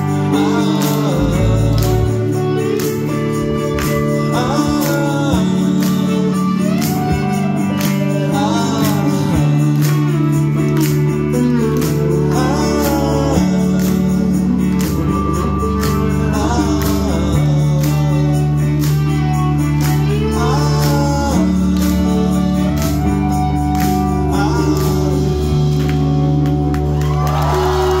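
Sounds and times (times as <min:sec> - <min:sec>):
guitar: 0:00.0 - 0:28.0
held bass notes: 0:00.0 - 0:28.0
person singing: 0:00.0 - 0:28.0.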